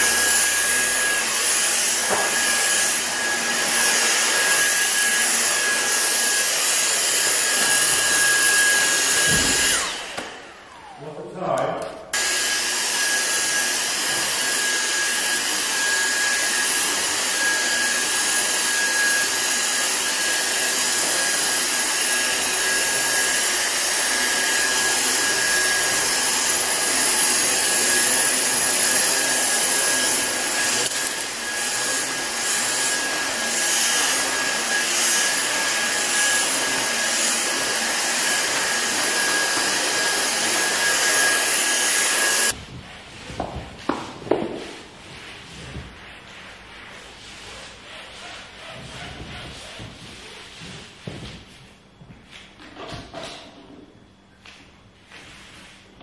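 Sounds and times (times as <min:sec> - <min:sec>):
vacuum pushed over a rug: 0:00.0 - 0:10.2, 0:12.2 - 0:51.6
vacuum cleaner whining: 0:00.0 - 0:54.0.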